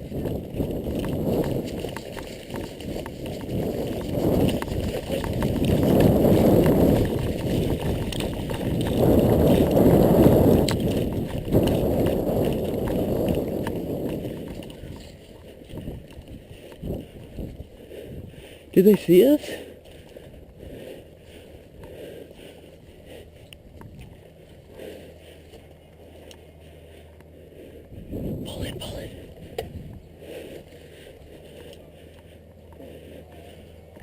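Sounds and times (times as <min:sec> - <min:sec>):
low rumbling wind: 0:00.0 - 0:34.0.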